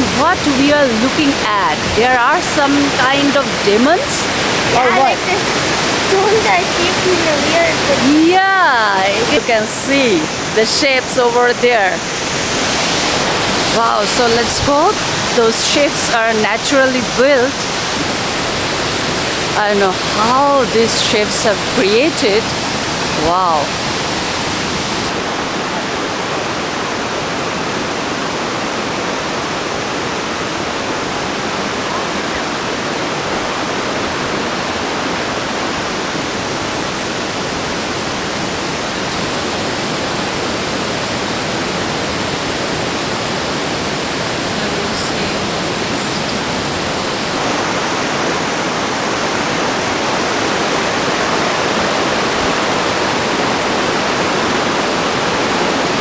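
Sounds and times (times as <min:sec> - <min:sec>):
waterfall and rapids roaring: 0:00.0 - 0:56.0.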